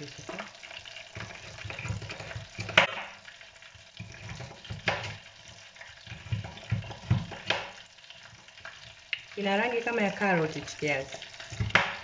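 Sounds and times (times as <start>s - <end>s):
prawns sizzling in oil: 0.0s - 12.0s.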